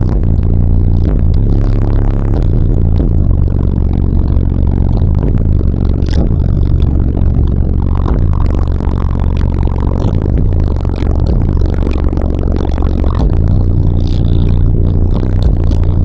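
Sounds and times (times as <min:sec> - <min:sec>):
bass-heavy music: 0:00.0 - 0:16.0
car body rattling and buzzing: 0:00.0 - 0:16.0.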